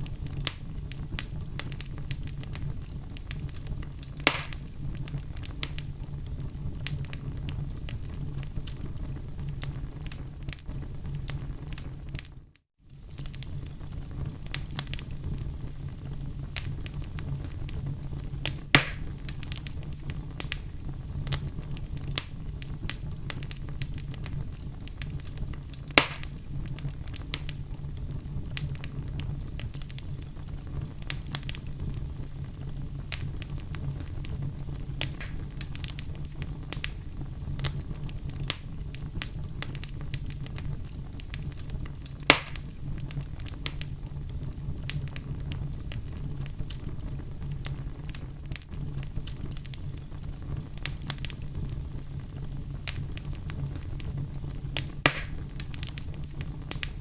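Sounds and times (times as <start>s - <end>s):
loud fire pops: 0.0s - 57.0s
wood fire crackling: 0.0s - 57.0s.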